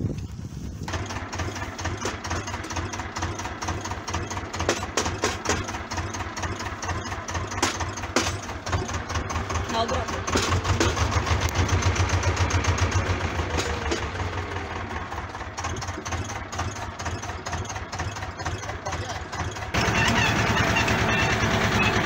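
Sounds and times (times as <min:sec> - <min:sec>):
diesel engine throbbing: 0:00.9 - 0:22.0.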